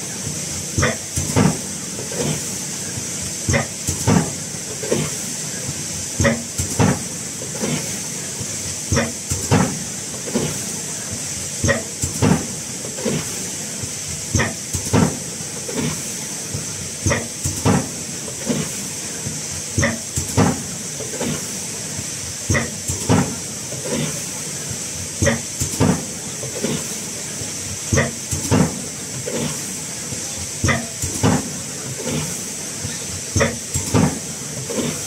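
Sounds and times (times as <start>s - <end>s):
machine hissing: 0.0s - 35.0s.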